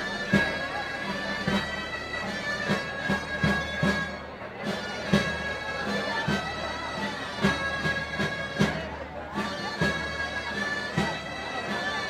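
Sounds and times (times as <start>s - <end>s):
drum beating: 0.0s - 12.0s
reedy shawm melody: 0.0s - 12.0s.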